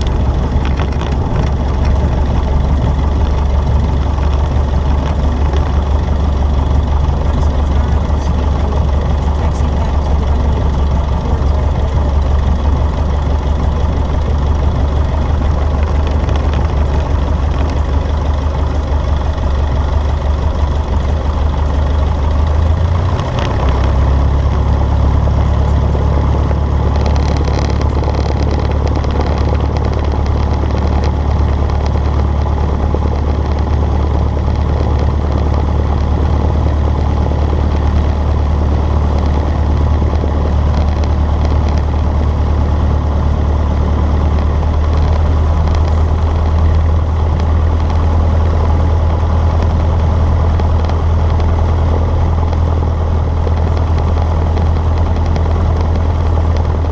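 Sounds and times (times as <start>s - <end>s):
propeller plane engine drone: 0.0s - 56.9s.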